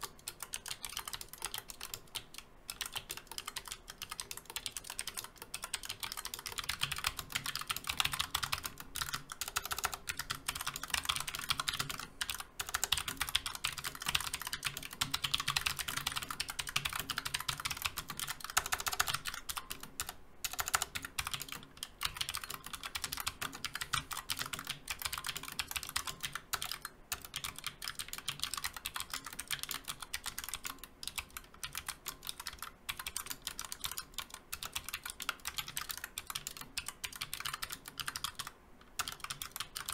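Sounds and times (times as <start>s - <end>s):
clicky keyboard typing: 0.0s - 39.9s.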